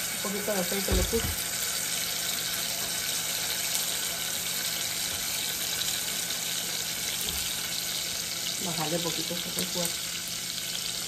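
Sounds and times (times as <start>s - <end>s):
sauce sizzling in hot oil: 0.0s - 11.0s.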